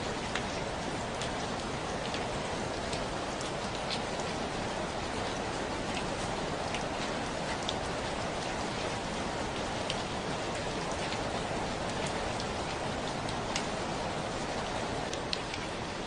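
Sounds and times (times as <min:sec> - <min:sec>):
raindrops ticking close by: 0:00.0 - 0:16.0
steady rainfall: 0:00.0 - 0:16.0.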